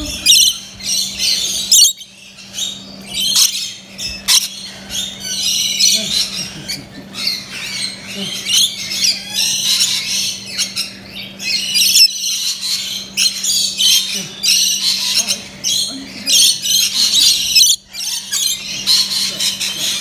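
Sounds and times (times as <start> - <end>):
lorikeets screeching: 0.0 - 20.0.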